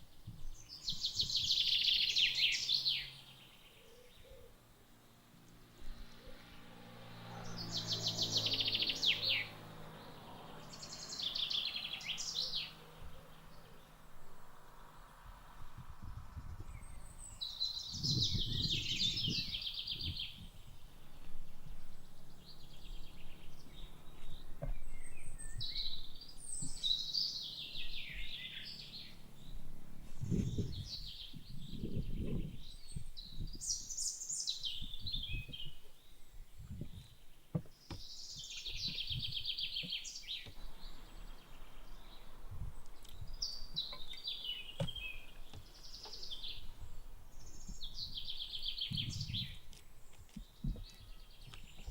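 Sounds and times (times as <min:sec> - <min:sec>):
songbirds singing: 0:00.0 - 0:51.9.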